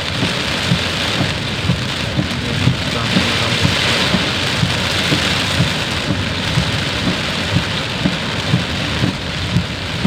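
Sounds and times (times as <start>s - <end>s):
heavy rain falling: 0.0s - 10.0s
large raindrops knocking: 0.0s - 10.0s.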